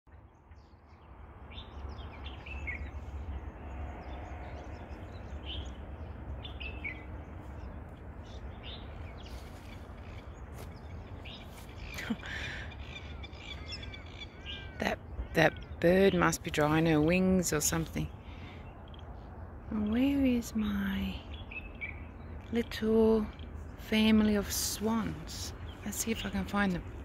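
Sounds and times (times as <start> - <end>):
birds chirping: 0.1 - 27.0
steady low rumble: 0.3 - 27.0.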